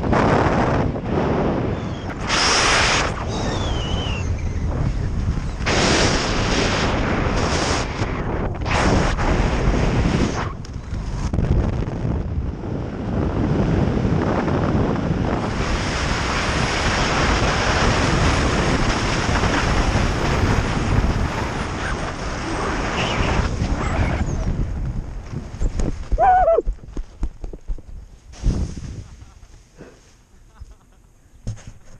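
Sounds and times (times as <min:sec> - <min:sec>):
wind rushing over microphone: 0:00.0 - 0:29.4.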